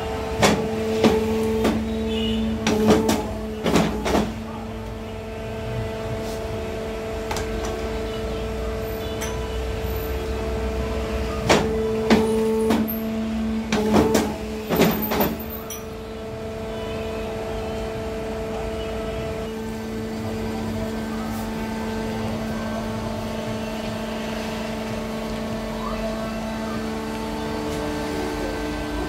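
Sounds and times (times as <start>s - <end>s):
paper cutter humming: 0.0s - 15.5s, 16.2s - 29.0s.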